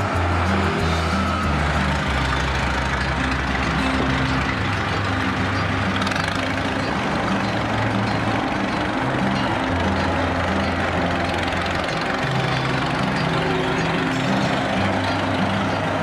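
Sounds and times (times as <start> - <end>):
background music with deep bass: 0.0 - 16.0.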